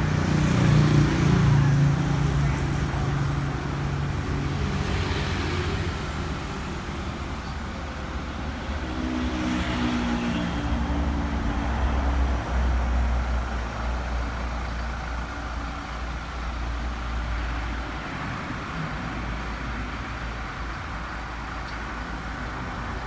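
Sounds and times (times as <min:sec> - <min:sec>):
motor vehicle engine rumble: 0:00.0 - 0:23.0.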